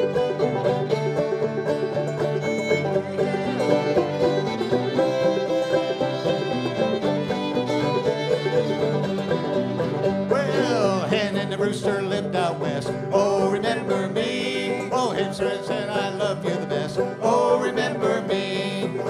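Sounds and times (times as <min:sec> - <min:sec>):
banjo: 0:00.0 - 0:19.0
fiddles: 0:00.0 - 0:19.0
string band playing: 0:00.0 - 0:19.0
strummed acoustic guitar: 0:00.0 - 0:19.0.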